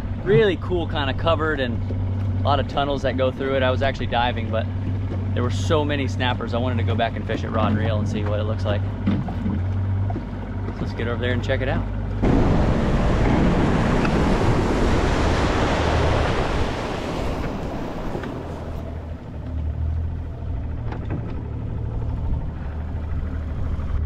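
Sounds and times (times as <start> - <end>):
boat motor humming: 0.0 - 24.0
wind and water rushing: 0.0 - 24.0.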